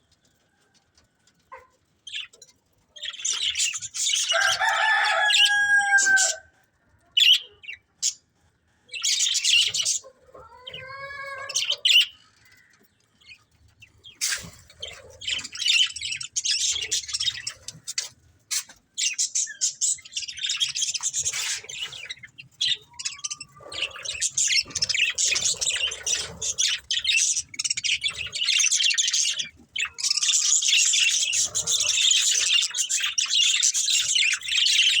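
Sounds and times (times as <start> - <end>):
budgerigars chirping and chattering: 1.5 - 6.4, 7.2 - 8.2, 8.9 - 35.0.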